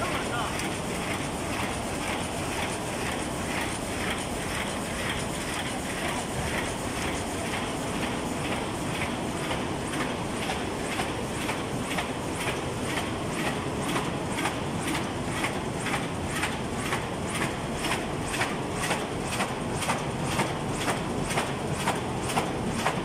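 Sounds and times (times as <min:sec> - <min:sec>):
die-cutting machine running: 0:00.0 - 0:23.0
machine clacking: 0:00.0 - 0:23.0.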